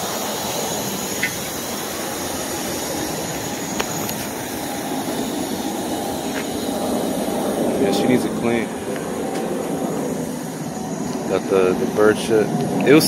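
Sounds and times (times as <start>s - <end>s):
urban background rumble and hiss: 0.0s - 13.0s.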